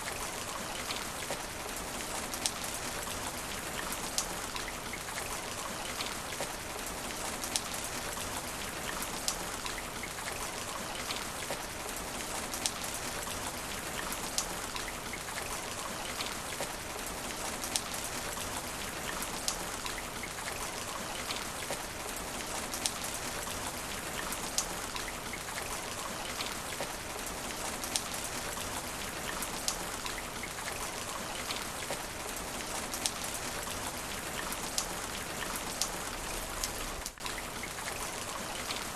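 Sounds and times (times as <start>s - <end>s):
rain hissing on asphalt: 0.0s - 38.9s.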